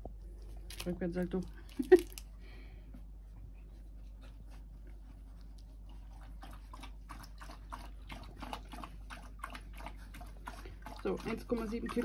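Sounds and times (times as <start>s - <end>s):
puppies scuffling and chewing: 0.0s - 12.0s.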